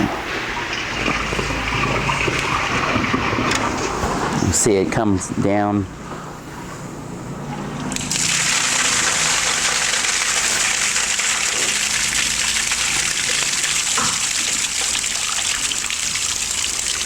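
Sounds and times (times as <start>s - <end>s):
toilet flushing: 0.0s - 4.9s, 7.2s - 17.0s.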